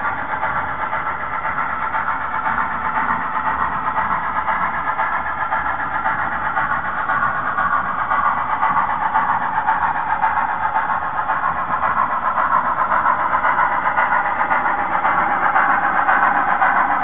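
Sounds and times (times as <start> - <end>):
model steam locomotive running: 0.0 - 17.0.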